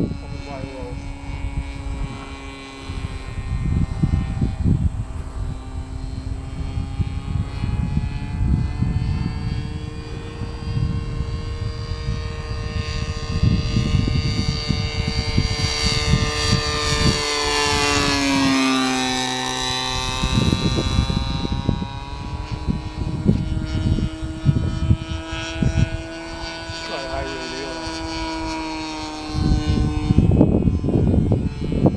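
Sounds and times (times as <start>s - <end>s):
model plane motor droning: 0.0s - 31.9s
wind on microphone: 0.0s - 31.9s.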